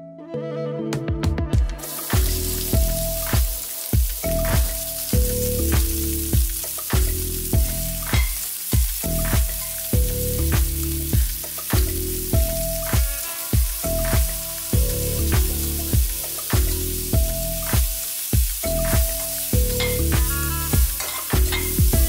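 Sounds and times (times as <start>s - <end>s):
background music with beat: 0.9s - 22.0s
prawns sizzling in hot oil: 1.8s - 22.0s
spatula in wok: 1.9s - 22.0s.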